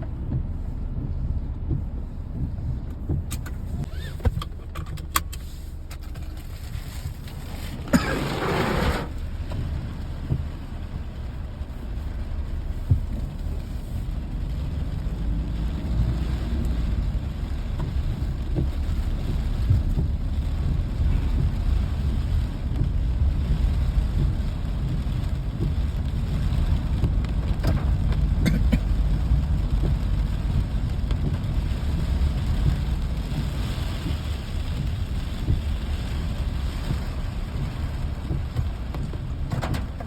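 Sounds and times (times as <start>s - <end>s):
rain hiss: 5.3s - 40.0s.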